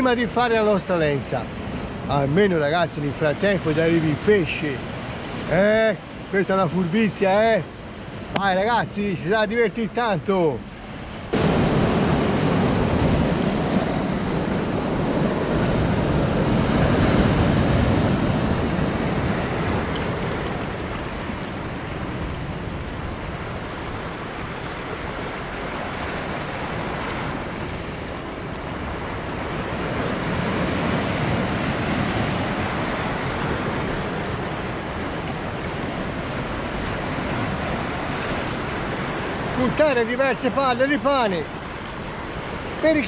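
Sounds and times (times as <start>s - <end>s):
surf breaking over rocks: 0.0s - 43.0s.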